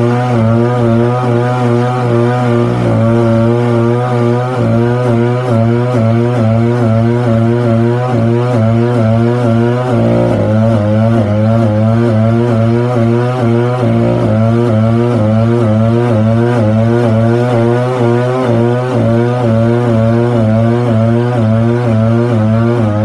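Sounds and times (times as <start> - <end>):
stump grinder engine grinding: 0.0 - 23.0.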